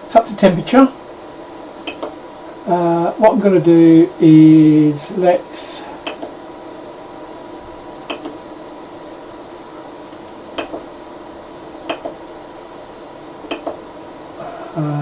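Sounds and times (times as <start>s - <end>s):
printer fans humming: 0.0s - 15.0s.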